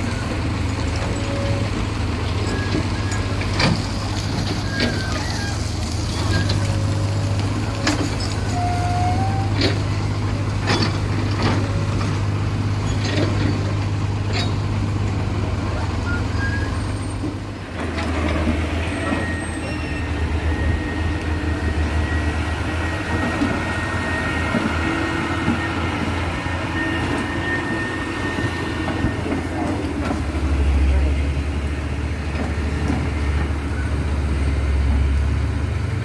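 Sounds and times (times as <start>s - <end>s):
heavy diesel engines running: 0.0s - 36.0s.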